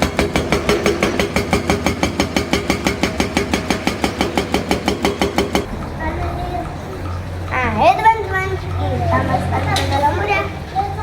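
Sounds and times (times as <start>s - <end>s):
toy excavator clicking: 0.0s - 11.0s.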